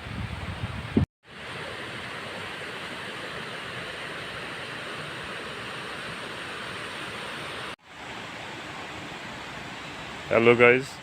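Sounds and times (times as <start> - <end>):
flowing river water: 1.3 - 10.6.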